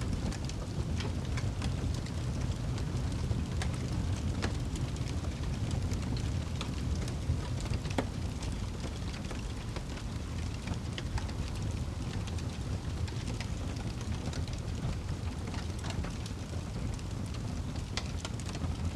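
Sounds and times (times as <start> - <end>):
campfire crackling and popping: 0.1 - 18.9.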